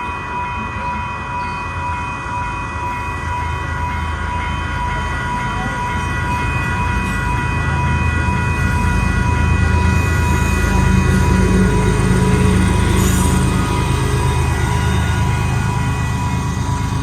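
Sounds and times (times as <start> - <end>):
crossing bell ringing: 0.0 - 17.0
train rumbling: 0.0 - 17.0.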